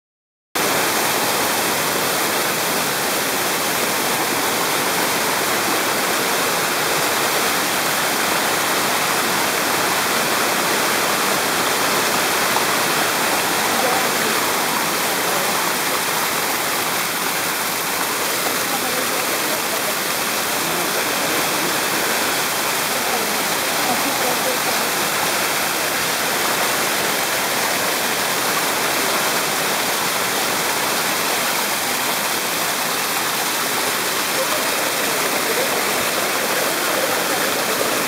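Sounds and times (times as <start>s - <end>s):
waterfall rushing over rocks: 0.6s - 38.0s.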